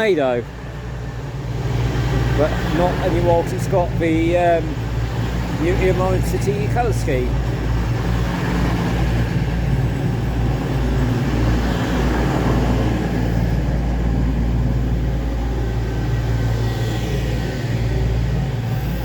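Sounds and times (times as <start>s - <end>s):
train diesel engines throbbing: 0.0s - 19.0s.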